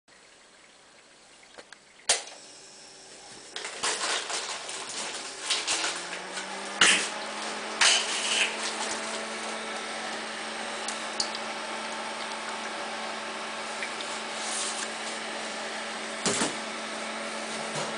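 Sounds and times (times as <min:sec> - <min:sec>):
machine motor humming: 0:02.2 - 0:17.9.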